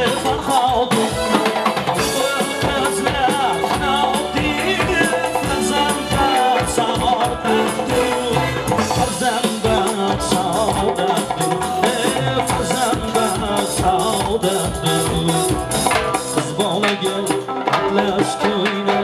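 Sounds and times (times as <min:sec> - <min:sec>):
drums: 0:00.0 - 0:19.0
electric guitar: 0:00.0 - 0:19.0
hand percussion: 0:00.0 - 0:19.0
man singing: 0:00.0 - 0:19.0.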